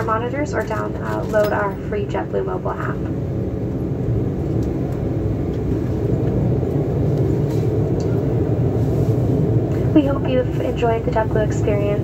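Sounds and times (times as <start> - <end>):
airliner cabin low rumble: 0.0 - 12.0.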